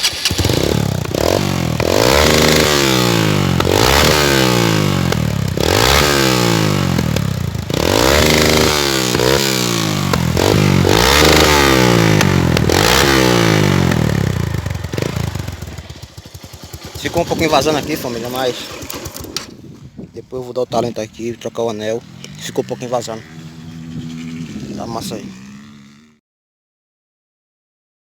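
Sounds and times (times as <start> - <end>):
motorcycle engine revving: 0.0 - 20.0, 20.7 - 26.2.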